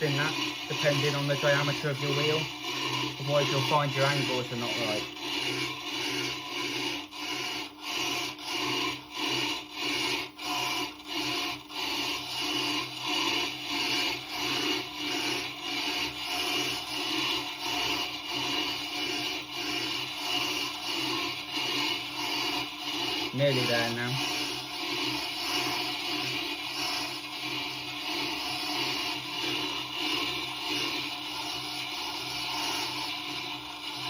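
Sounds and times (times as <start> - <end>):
gritty scraping on grinding stone: 0.0 - 34.0.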